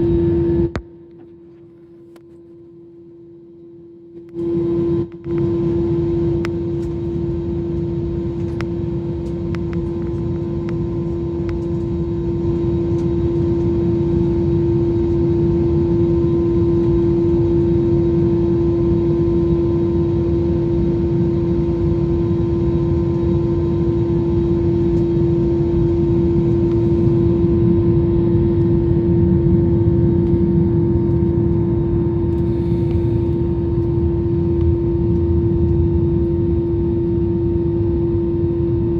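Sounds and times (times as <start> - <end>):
jet engines rumbling in cabin: 0.0 - 38.9.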